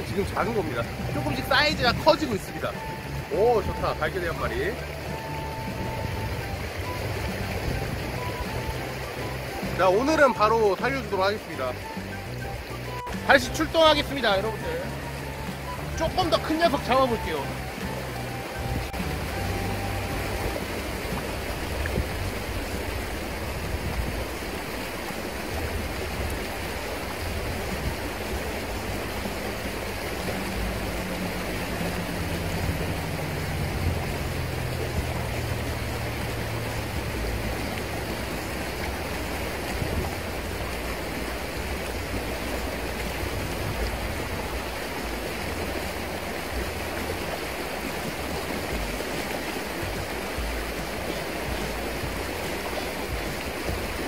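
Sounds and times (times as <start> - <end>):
river rushing over riffle: 0.0 - 54.0.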